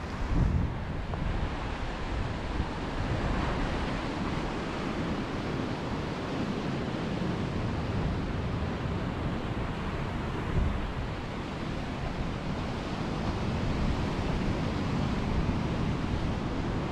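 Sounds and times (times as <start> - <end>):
ocean surf washing on shore: 0.0 - 16.9
wind rumbling on microphone: 0.0 - 16.9.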